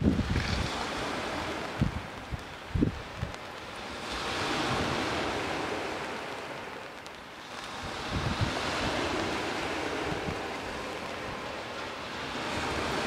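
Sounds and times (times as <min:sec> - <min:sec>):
small waves washing onto beach: 0:00.0 - 0:13.0
wind buffeting microphone: 0:00.0 - 0:13.0.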